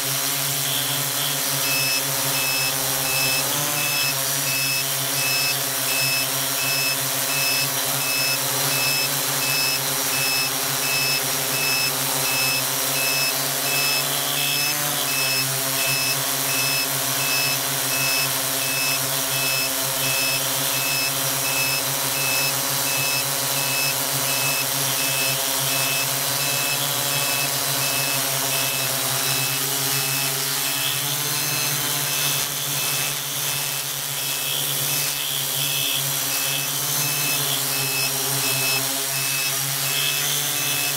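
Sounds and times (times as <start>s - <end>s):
drone motors buzzing: 0.0s - 40.9s.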